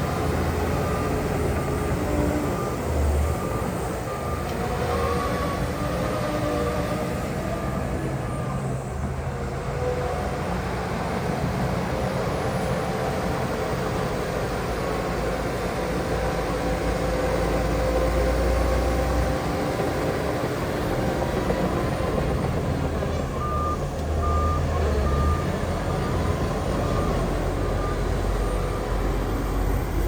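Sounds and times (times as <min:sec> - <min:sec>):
heavy diesel machinery rumbling: 0:00.0 - 0:30.0.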